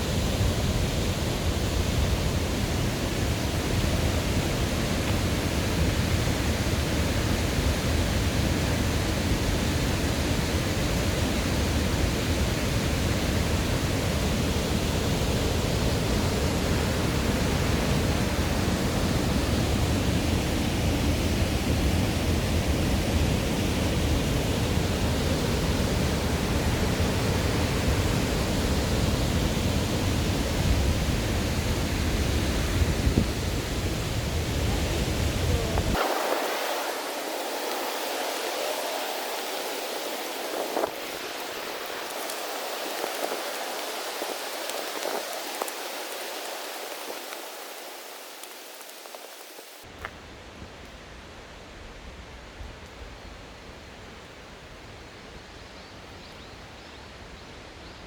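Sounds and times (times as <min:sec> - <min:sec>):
mountain stream and waterfall rushing: 0:00.0 - 0:50.1.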